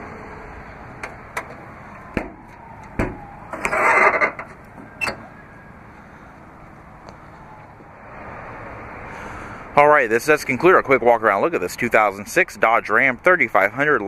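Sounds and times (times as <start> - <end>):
low outdoor background: 0.0 - 14.0.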